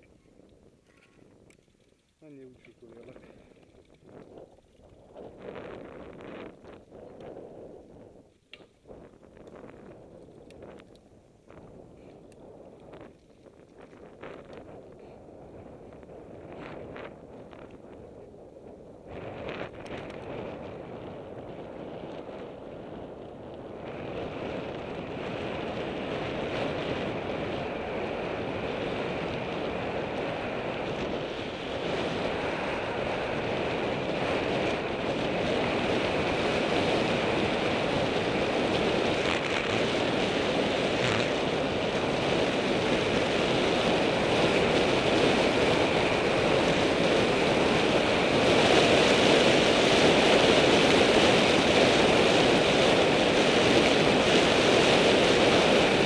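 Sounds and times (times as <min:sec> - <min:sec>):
wheels rolling on rough asphalt: 0:00.0 - 0:56.0
wind rushing over microphone: 0:00.0 - 0:56.0.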